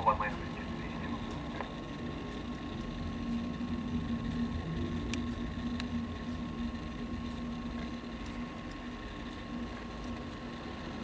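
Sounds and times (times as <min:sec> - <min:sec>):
aircraft engines droning: 0:00.0 - 0:11.0.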